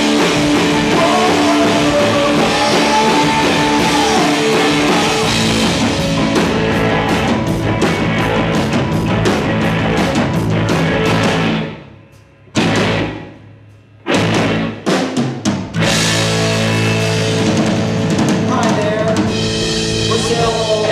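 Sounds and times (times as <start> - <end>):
live rock band playing: 0.0 - 20.9.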